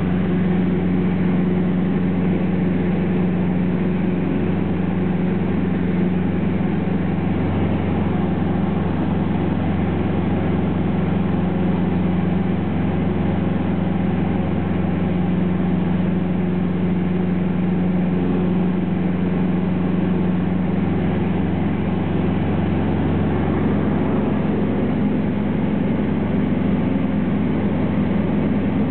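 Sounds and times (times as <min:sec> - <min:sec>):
aircraft engine droning: 0:00.0 - 0:28.9.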